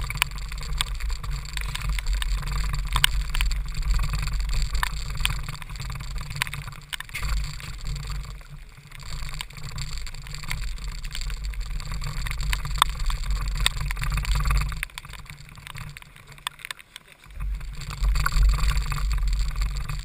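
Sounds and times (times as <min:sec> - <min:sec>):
kart engine running: 0:00.0 - 0:16.4, 0:17.2 - 0:20.0
sharp ticks: 0:00.0 - 0:20.0
wind: 0:00.0 - 0:20.0.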